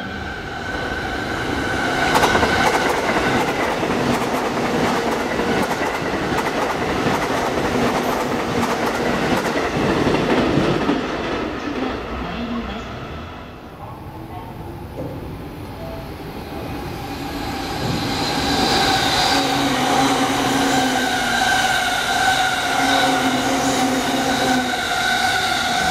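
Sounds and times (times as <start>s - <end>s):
train passing at speed: 0.0s - 25.9s.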